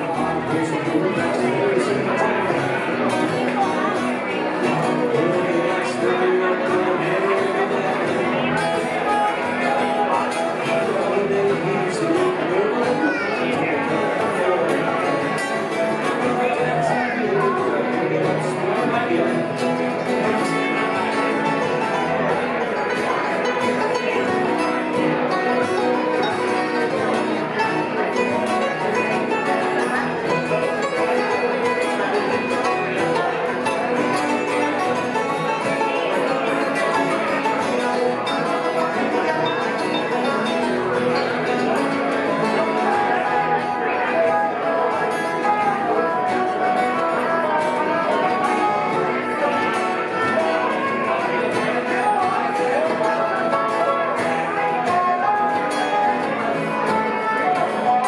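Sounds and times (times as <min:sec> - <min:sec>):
banjo picking: 0:00.0 - 0:58.0
fiddle: 0:00.0 - 0:58.0
strummed acoustic guitars: 0:00.0 - 0:58.0.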